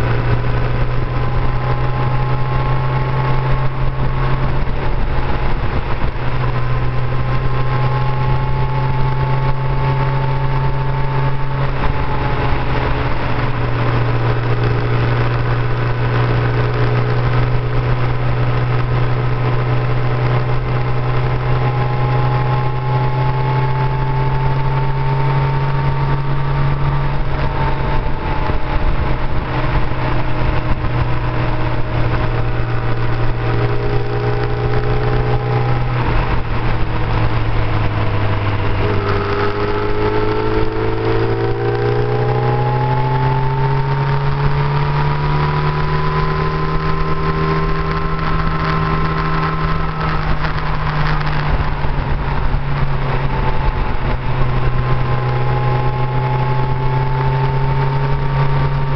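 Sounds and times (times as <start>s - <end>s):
motorcycle engine cruising: 0.0s - 58.9s
wind and road rush: 0.0s - 58.9s.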